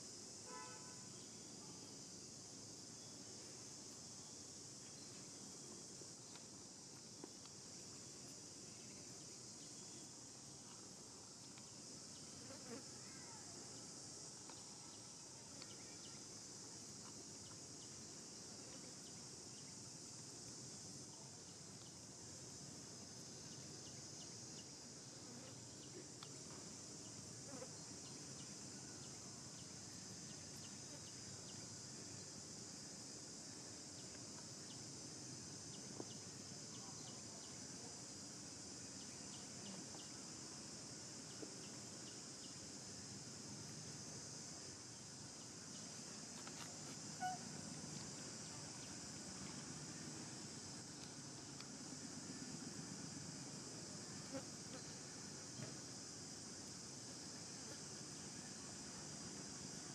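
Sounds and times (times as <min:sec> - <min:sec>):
insect chorus buzzing: 0:00.0 - 0:59.9.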